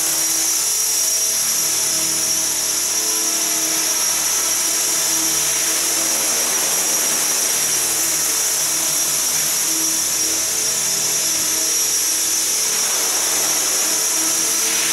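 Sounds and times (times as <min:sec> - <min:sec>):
rc helicopter motor whine: 0:00.0 - 0:14.9
rotor hum: 0:00.0 - 0:14.9.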